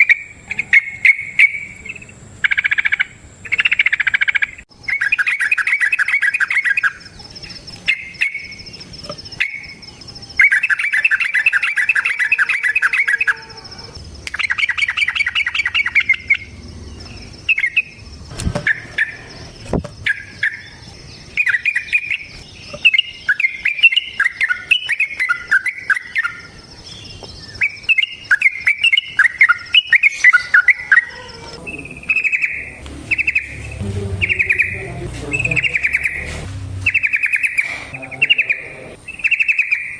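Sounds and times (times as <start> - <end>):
bird chattering notes: 0.0 - 26.6, 27.5 - 39.9
bird singing rolling trills: 0.0 - 39.9.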